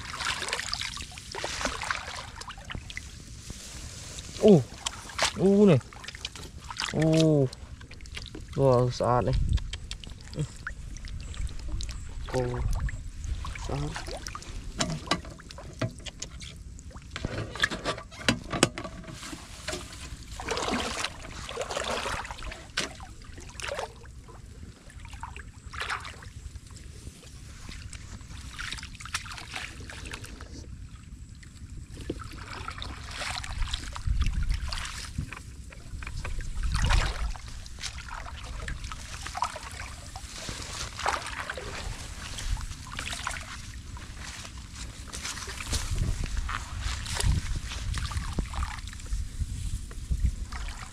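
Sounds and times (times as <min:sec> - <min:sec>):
muddy water splashing: 0:00.0 - 0:18.0, 0:19.0 - 0:50.9.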